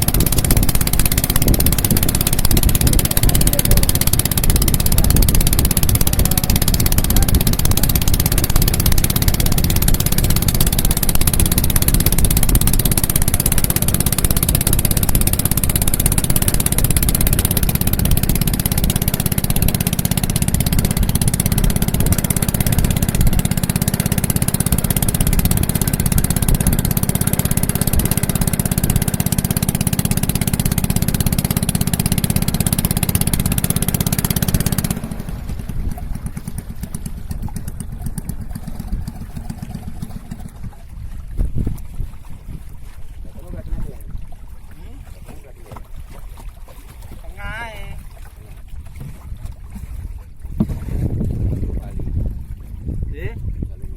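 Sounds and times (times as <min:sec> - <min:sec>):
boat motor droning: 0:00.0 - 0:53.9.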